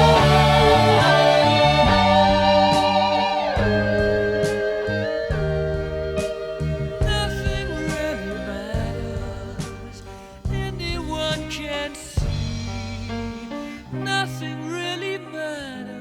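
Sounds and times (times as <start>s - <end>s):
drum hit: 0.0s - 13.9s
music with chords and gliding melody: 0.0s - 14.3s.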